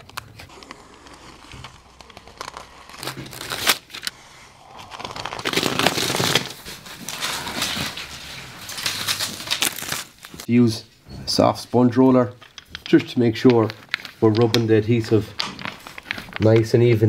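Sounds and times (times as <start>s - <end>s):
tape and membrane crinkling: 0.0s - 10.5s, 12.3s - 17.0s.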